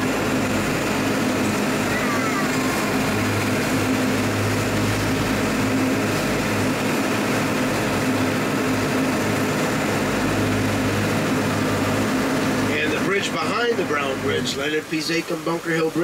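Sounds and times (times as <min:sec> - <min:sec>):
boat engine droning: 0:00.0 - 0:16.0
water hissing: 0:00.0 - 0:16.0.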